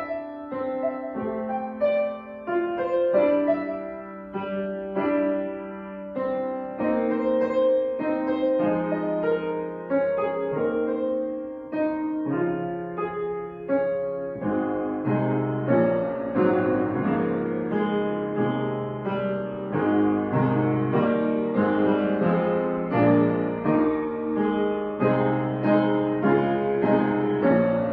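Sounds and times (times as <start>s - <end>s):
piano music: 0.0s - 27.9s.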